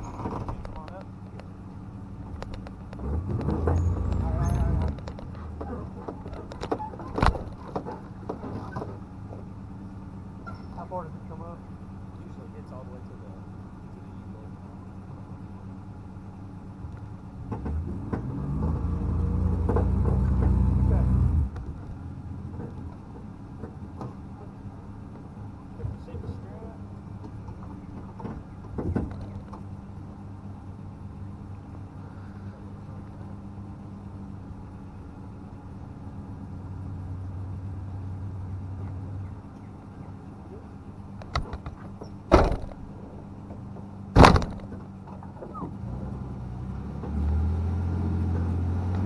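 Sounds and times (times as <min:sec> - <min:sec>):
engine humming: 0:00.0 - 0:49.0.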